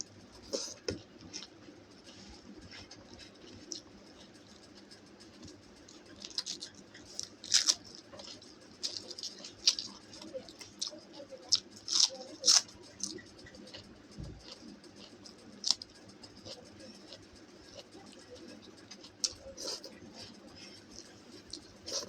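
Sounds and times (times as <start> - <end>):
person chewing crunchy food: 0.3 - 22.0.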